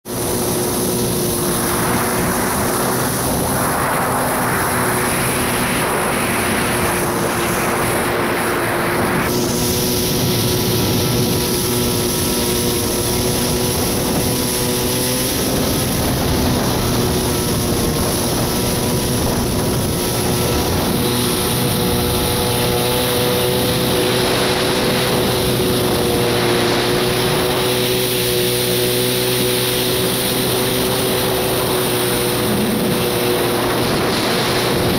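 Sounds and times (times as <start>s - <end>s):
jet ski engine running: 0.0s - 34.9s
rush of water and wind: 0.0s - 34.9s.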